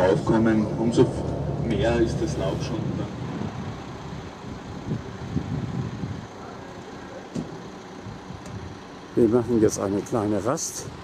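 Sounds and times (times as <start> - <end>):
low rumble with hiss: 0.0 - 11.0.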